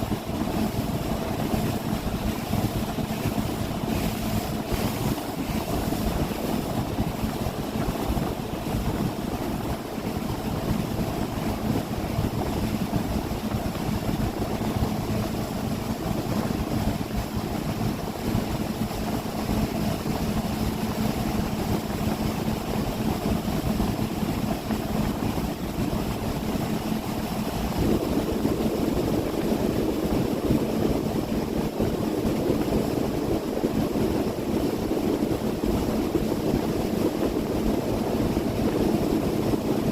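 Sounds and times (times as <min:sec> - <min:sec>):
boat engine running: 0:00.0 - 0:39.9
water noise: 0:00.0 - 0:39.9
wind: 0:00.0 - 0:39.9.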